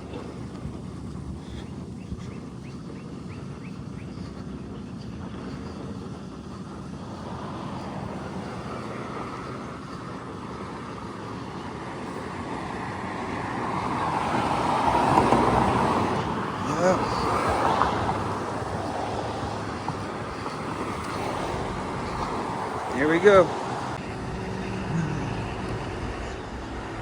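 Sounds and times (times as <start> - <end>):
passing traffic hum: 0.0 - 27.0
vehicle passing: 0.0 - 27.0.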